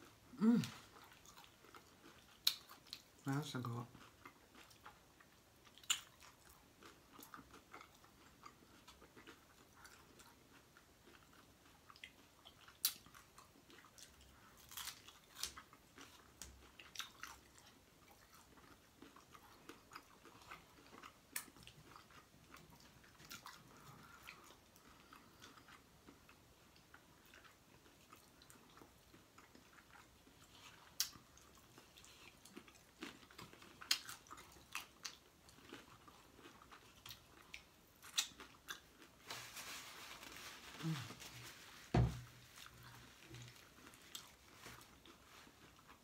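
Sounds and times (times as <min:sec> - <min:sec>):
chewing crunchy taco shell: 0:00.0 - 0:41.4, 0:42.2 - 0:46.0.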